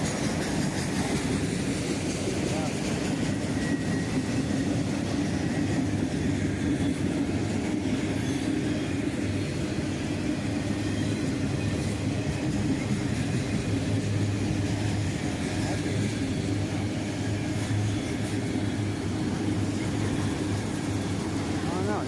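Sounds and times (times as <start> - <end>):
freight train wheels on track: 0.0 - 22.0.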